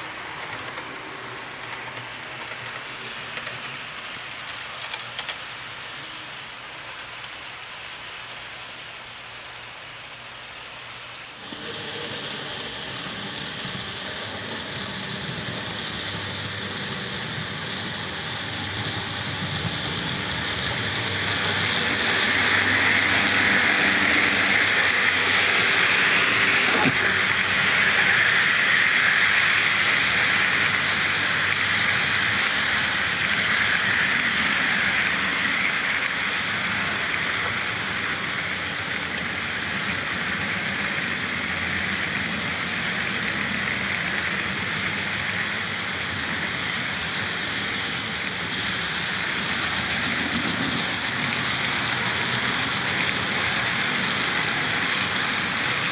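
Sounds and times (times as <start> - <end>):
model train wheels clattering on rail: 0.0 - 9.2, 11.4 - 55.9.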